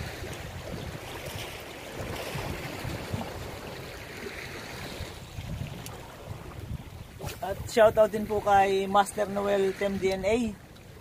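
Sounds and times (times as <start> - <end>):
wind gusting on microphone: 0.0 - 10.6.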